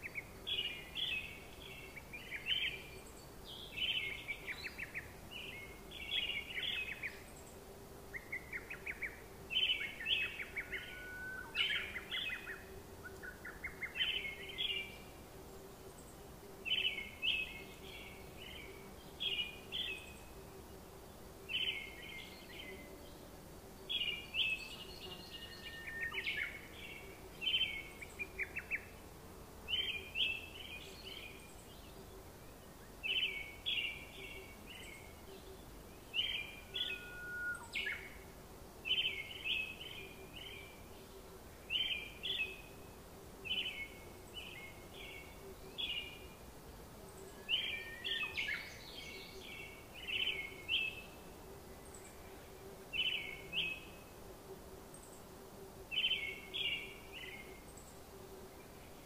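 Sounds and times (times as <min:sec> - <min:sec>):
faint steady hum: 0:00.0 - 0:59.0
small birds chirping: 0:00.0 - 0:59.0.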